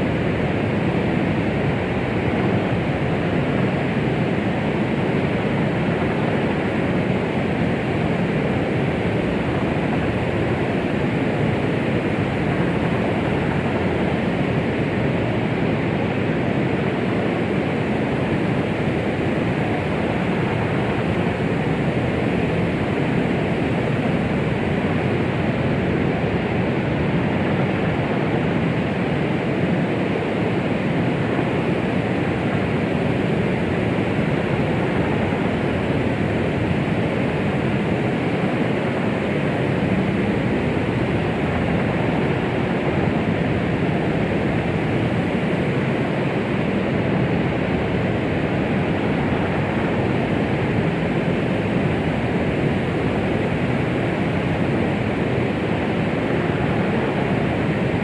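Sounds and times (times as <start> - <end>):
low rushing white noise: 0.0 - 58.0.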